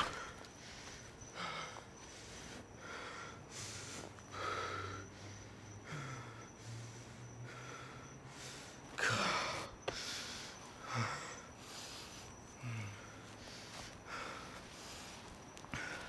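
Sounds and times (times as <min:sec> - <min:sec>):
person breathing heavily: 0:00.0 - 0:16.0.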